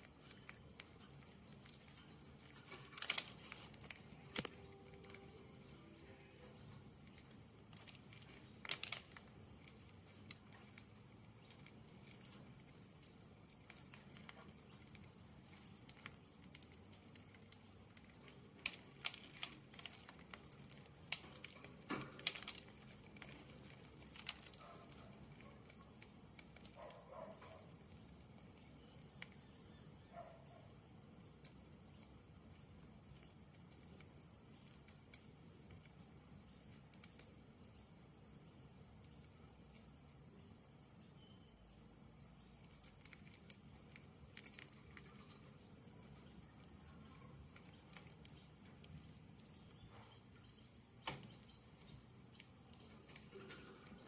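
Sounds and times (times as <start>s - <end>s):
budgies cracking seeds: 0.0s - 54.0s.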